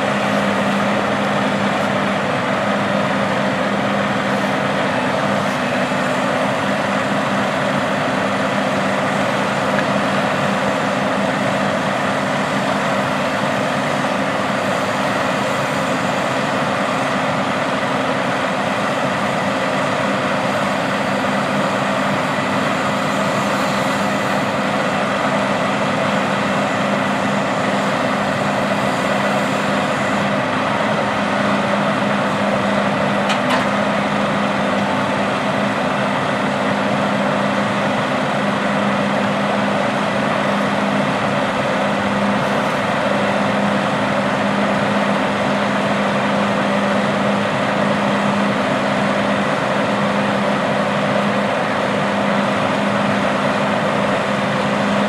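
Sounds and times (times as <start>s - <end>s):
diesel farm machinery running: 0.0s - 55.0s.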